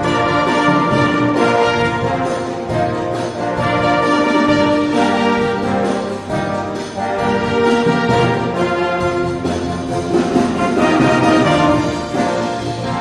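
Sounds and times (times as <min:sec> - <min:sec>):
slow brass music: 0:00.0 - 0:13.0.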